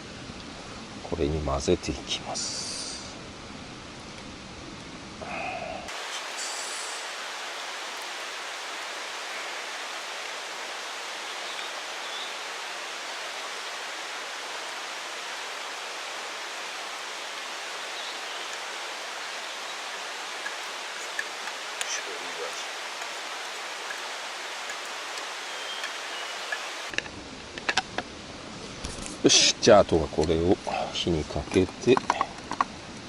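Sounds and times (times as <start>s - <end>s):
steady rushing hiss: 0.0s - 33.0s.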